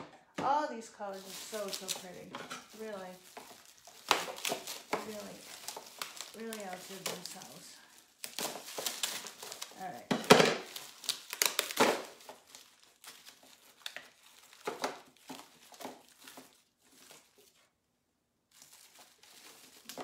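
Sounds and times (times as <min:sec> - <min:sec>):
packing material crinkling: 0:01.0 - 0:17.8, 0:18.5 - 0:20.0.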